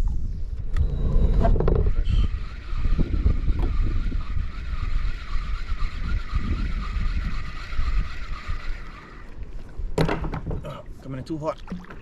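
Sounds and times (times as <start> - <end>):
faint wavering whine: 0.0 - 9.6
wind buffeting microphone: 0.0 - 11.2.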